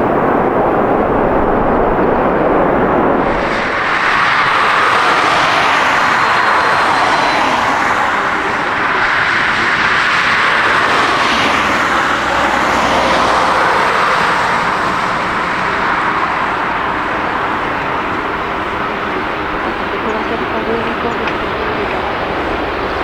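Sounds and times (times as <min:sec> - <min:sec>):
jet airliner engines: 0:00.0 - 0:23.0.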